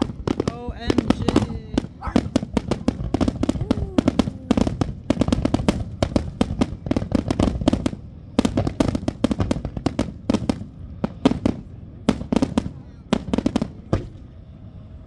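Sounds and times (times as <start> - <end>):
fireworks bangs and crackles: 0.0 - 14.4.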